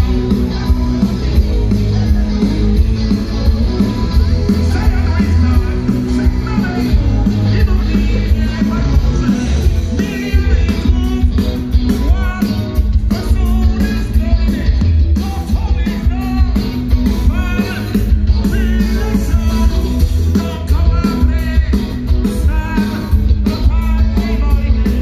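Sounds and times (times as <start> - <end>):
live rock band: 0.0 - 25.0
person singing: 0.0 - 25.0.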